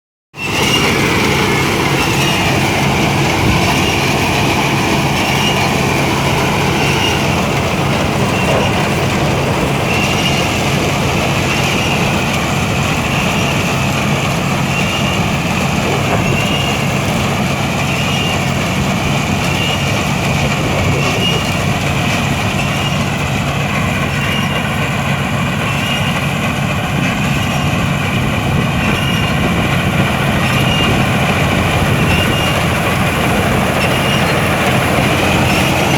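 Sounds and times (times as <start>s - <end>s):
combine harvester engine drone: 0.4s - 35.9s.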